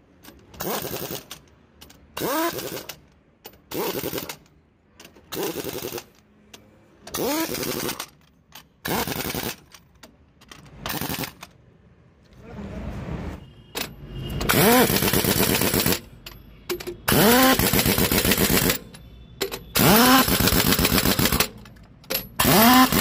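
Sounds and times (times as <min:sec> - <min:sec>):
pneumatic impact wrench rattling: 0:00.1 - 0:06.2, 0:07.0 - 0:11.6, 0:13.8 - 0:23.0.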